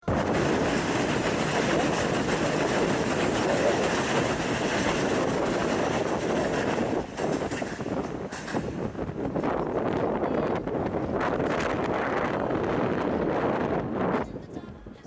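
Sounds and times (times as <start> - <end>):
subway train wheels on rails: 0.0 - 14.3.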